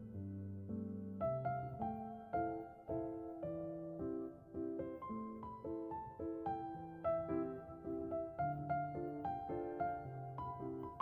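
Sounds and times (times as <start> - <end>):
piano-like keyboard melody: 0.0 - 11.0.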